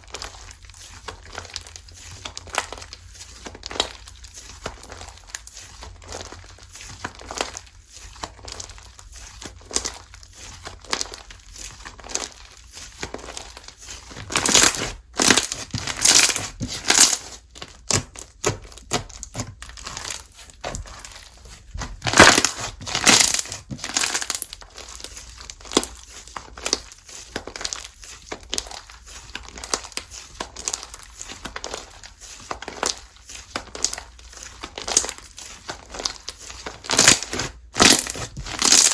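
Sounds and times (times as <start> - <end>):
slime squeezed and stretched: 0.1 - 38.9.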